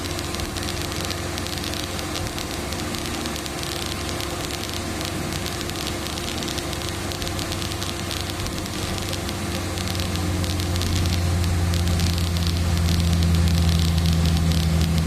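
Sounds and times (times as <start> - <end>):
heater blower: 0.0 - 15.0
rain patter on car body: 0.0 - 15.0
vehicle engine hum in cabin: 0.0 - 15.0.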